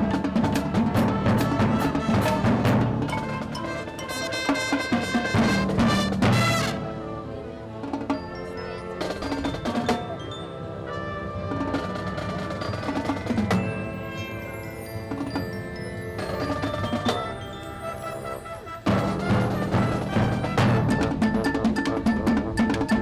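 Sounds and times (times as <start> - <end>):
mallet percussion notes: 0.0 - 7.0, 7.8 - 23.0
marching band playing: 0.0 - 23.0.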